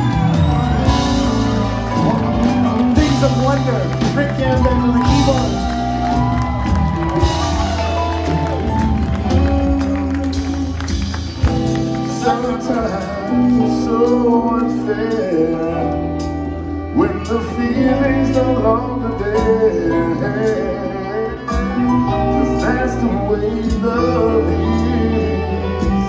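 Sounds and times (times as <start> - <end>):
live band playing: 0.0 - 26.0
person singing: 0.8 - 26.0.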